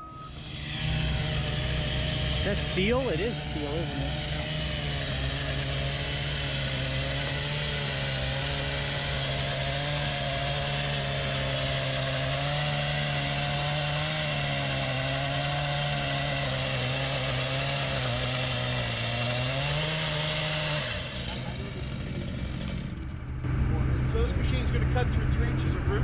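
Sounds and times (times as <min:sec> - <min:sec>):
power cutter running: 0:00.0 - 0:26.0.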